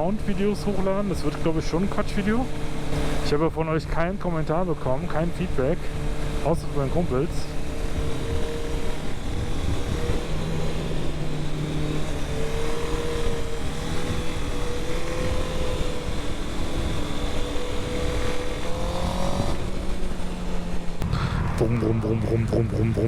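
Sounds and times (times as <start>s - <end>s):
motorcycle engine cruising: 0.0s - 23.0s
wind and road rush: 0.0s - 23.0s.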